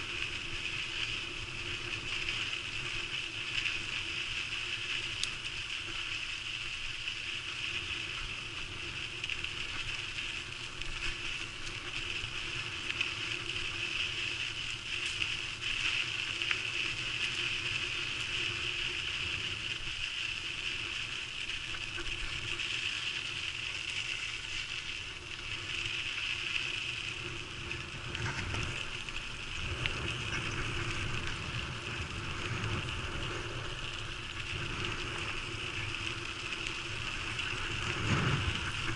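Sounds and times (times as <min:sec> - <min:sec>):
bicycle rattle: 0:00.0 - 0:38.9
bicycle tyres rolling on dirt: 0:00.0 - 0:38.9.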